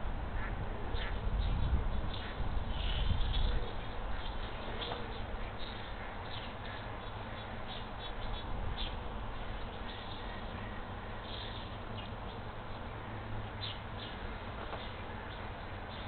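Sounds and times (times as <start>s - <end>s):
microphone hiss and hum: 0.0s - 16.0s.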